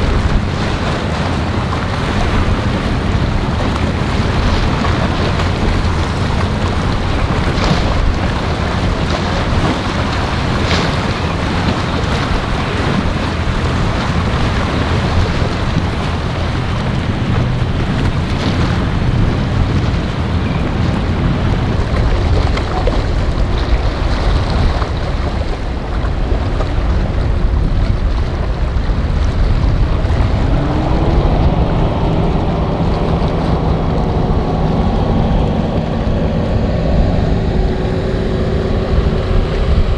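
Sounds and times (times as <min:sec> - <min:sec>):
motorboat engines: 0:00.0 - 0:39.9
waves washing: 0:00.0 - 0:39.9
wind buffeting microphone: 0:00.0 - 0:39.9.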